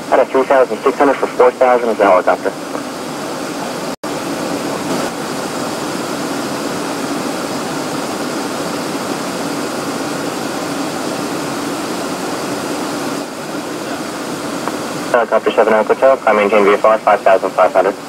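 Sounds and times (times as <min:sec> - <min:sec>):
jet cockpit airflow and engine noise: 0:00.0 - 0:18.0.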